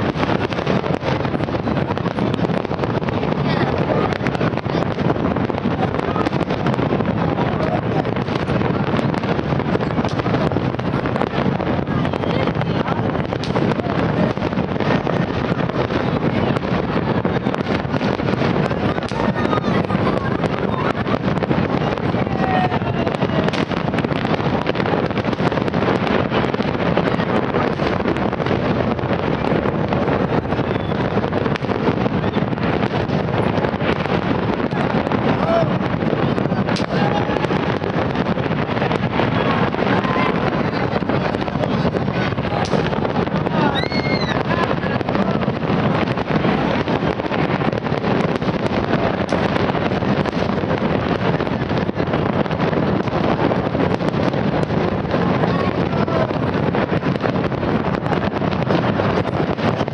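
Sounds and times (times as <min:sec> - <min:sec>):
fireworks bangs and crackles: 0:00.0 - 0:59.9
wind on microphone: 0:00.0 - 0:59.9.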